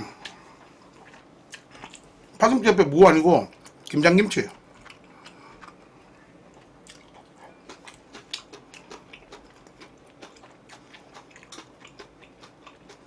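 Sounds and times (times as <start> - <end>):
person chewing food: 0.0 - 2.4, 3.5 - 13.0.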